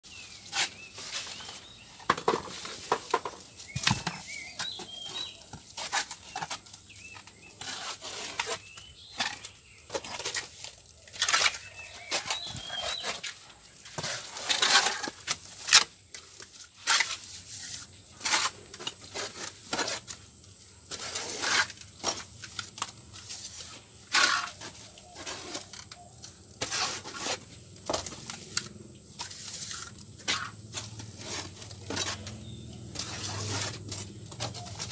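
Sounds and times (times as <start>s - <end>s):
trowel slapping and scraping mortar: 0.1s - 34.9s.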